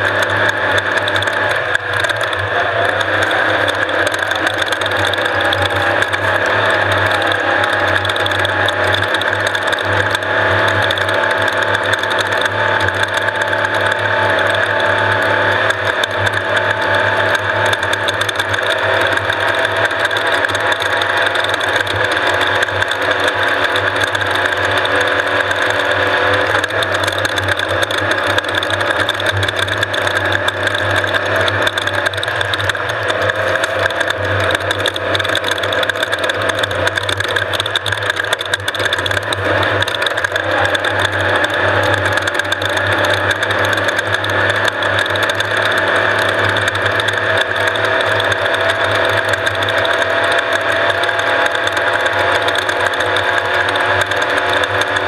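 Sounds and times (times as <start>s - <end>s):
low engine drone: 0.0s - 55.0s
mechanical rattle and clatter: 0.0s - 55.0s.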